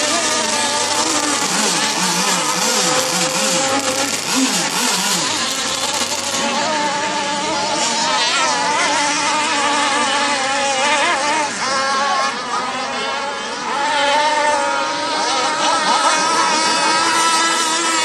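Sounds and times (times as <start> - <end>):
racing boat engines at high revs: 0.0 - 18.0.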